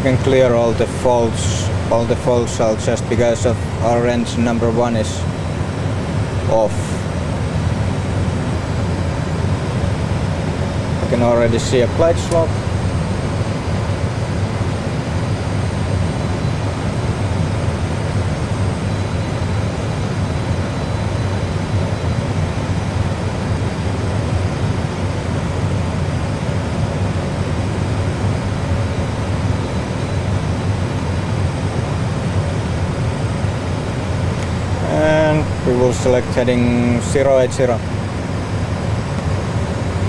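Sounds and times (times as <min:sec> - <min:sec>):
low rumble of airflow and engine: 0:00.0 - 0:40.0.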